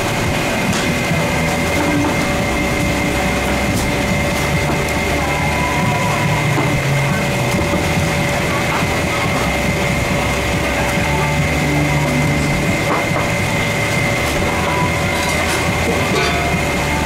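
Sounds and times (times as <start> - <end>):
machine drone with high whine: 0.0 - 17.0.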